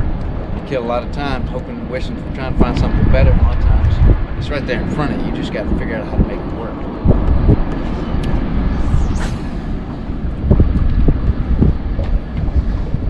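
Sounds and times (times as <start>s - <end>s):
wind blowing on microphone: 0.0s - 13.0s.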